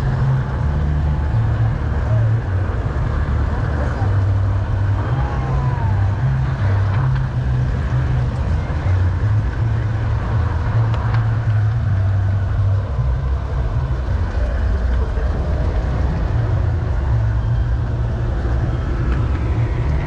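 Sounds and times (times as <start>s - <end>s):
model train rumbling on track: 0.0s - 20.0s.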